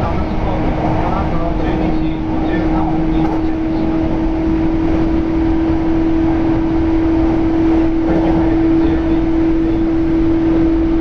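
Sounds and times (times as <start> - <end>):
electric train hum: 0.0 - 11.0
train wheels rumbling on track: 0.0 - 11.0.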